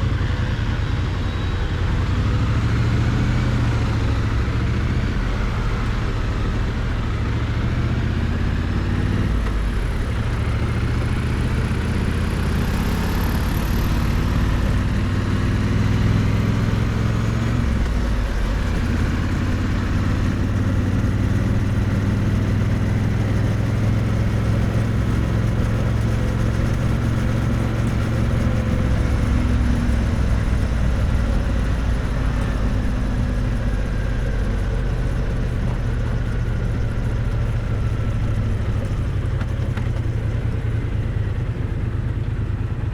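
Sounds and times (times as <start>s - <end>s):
motorcycle engine and exhaust running: 0.0s - 42.9s.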